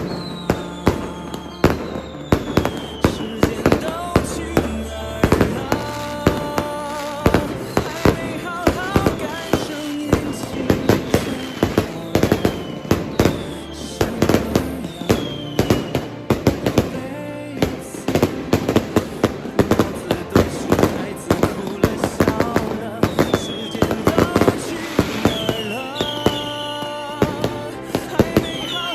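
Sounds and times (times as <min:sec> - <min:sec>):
background music: 0:00.0 - 0:28.9
fireworks banging: 0:00.0 - 0:28.9.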